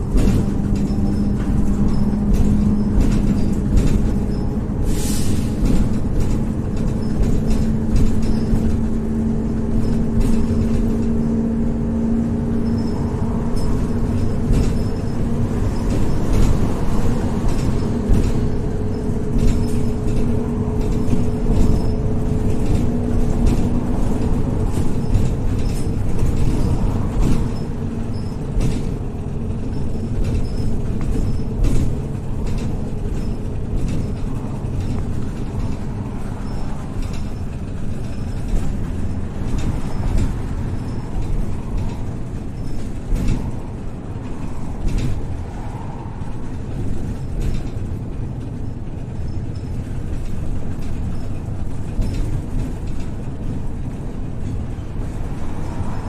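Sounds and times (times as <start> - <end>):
bus engine drone: 0.0 - 56.0
rattles and clicks from bus body: 0.0 - 56.0
road rumble: 0.0 - 56.0.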